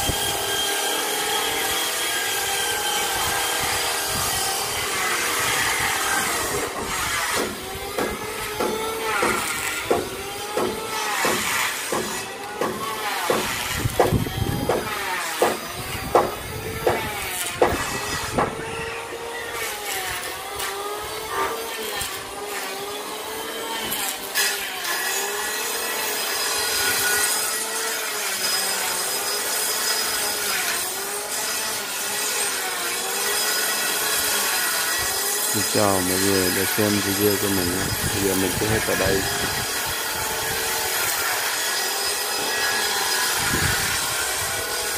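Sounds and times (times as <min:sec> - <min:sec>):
blade rasping through wood: 0:00.0 - 0:44.9
hand saw cutting timber: 0:00.0 - 0:44.9
power tool motor whine: 0:00.0 - 0:44.9.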